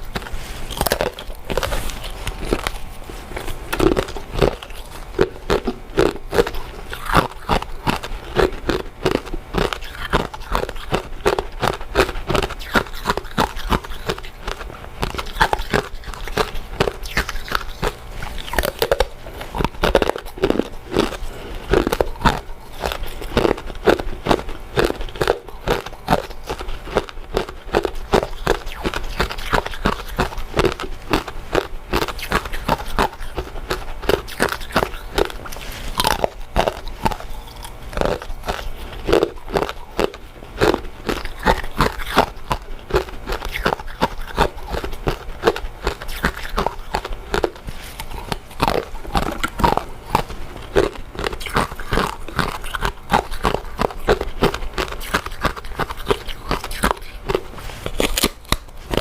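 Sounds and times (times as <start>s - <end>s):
chewing mouth sounds: 0.0s - 59.0s.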